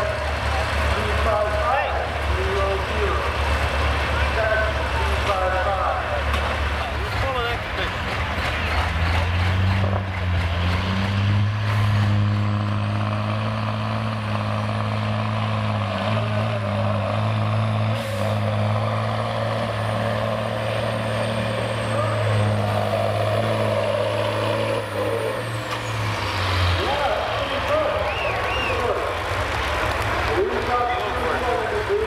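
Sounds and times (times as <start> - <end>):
truck diesel engine running: 0.0 - 32.0.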